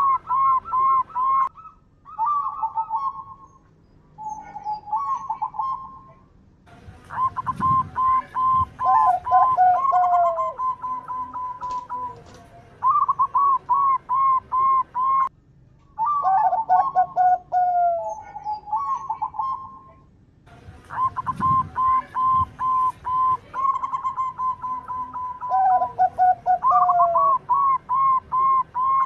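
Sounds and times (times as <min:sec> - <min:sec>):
dove cooing: 0:00.0 - 0:03.6, 0:04.2 - 0:06.1, 0:07.1 - 0:15.3, 0:16.0 - 0:20.0, 0:20.9 - 0:29.0.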